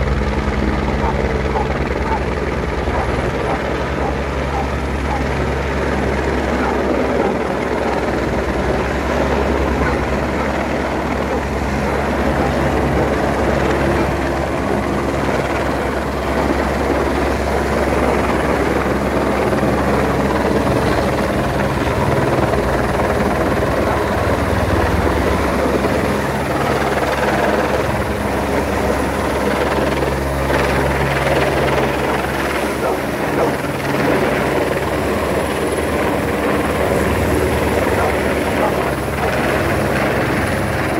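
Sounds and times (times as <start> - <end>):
helicopter rotor beating: 0.0 - 40.9.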